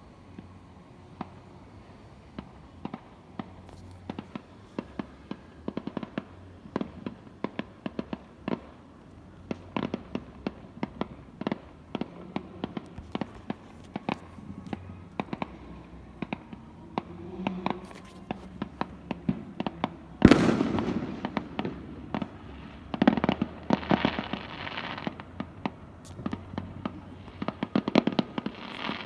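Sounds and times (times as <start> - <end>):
fireworks bangs and crackles: 0.3 - 29.0.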